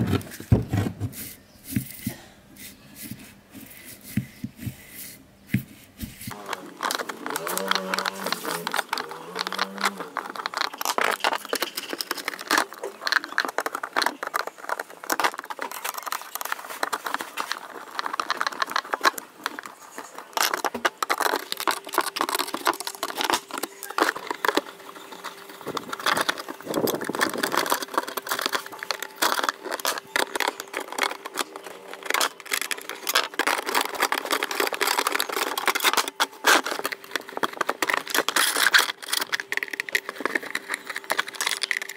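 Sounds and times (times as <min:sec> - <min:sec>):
scraping clicking and knocking: 0:03.0 - 0:41.9.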